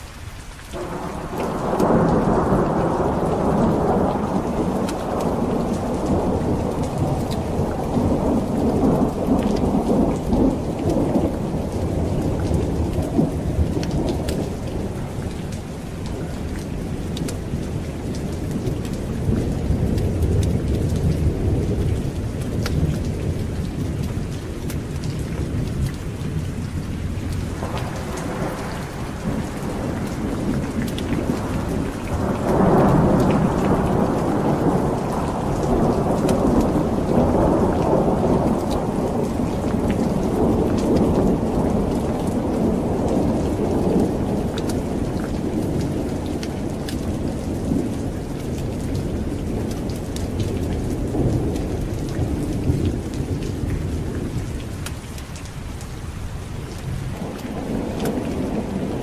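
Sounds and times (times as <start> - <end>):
steady rain: 0.0 - 59.0
rolling thunder rumble: 0.8 - 55.4, 56.2 - 59.0.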